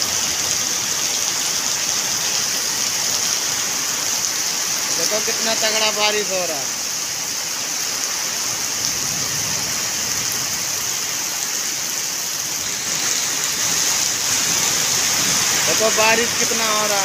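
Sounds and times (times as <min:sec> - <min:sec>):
heavy rain splashing on wet ground: 0:00.0 - 0:17.0.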